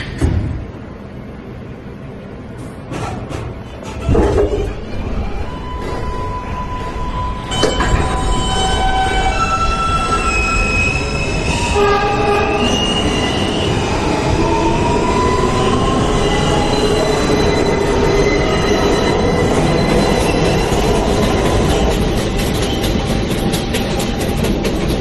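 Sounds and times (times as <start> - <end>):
train wheels rumbling on track: 0.0 - 25.0
high squealing and whining: 3.8 - 24.1.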